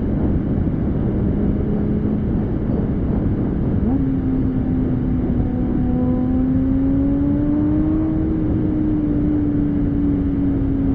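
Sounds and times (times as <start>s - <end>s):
road and wind noise: 0.0s - 10.9s.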